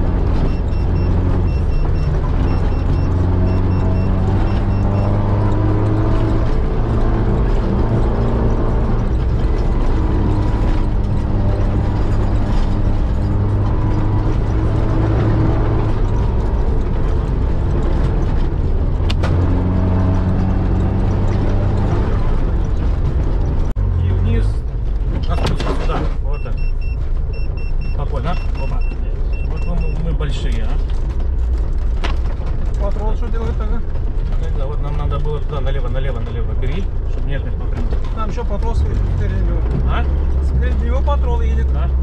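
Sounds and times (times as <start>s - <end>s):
engine running under load: 0.0s - 34.8s
drivetrain and tyre noise: 0.0s - 42.0s.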